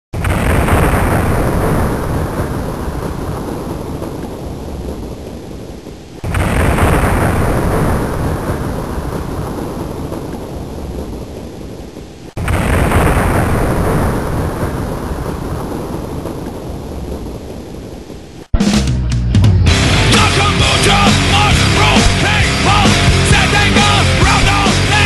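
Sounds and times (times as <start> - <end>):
thunder claps: 0.2 - 18.6, 19.5 - 25.0.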